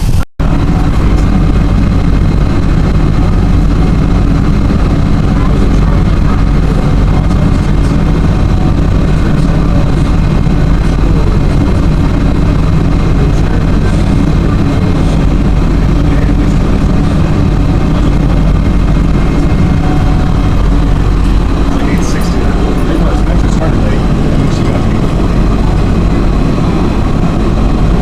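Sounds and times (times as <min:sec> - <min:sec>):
boat diesel engine humming: 0:00.0 - 0:28.0.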